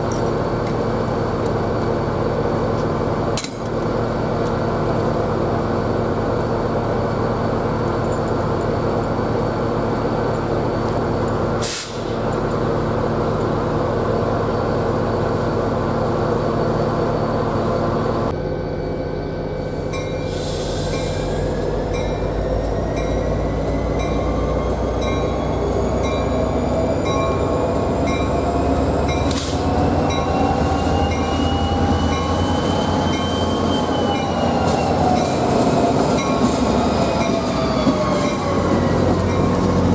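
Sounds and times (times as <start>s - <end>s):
diesel train engine hum: 0.0s - 39.9s
rising train whine: 0.0s - 39.9s.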